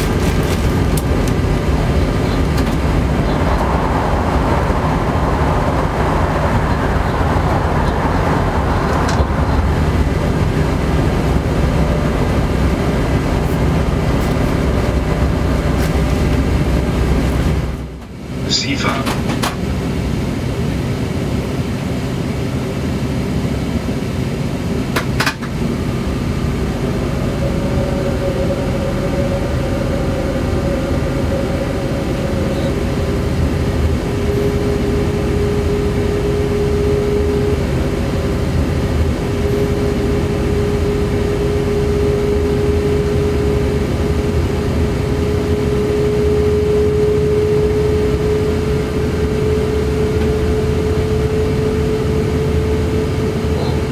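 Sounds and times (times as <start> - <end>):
steady whine: 0.0 - 53.9
train running rumble: 0.0 - 53.9.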